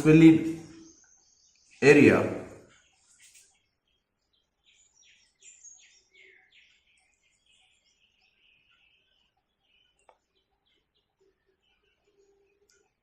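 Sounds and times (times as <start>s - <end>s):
songbird chirping and warbling: 0.0s - 13.0s.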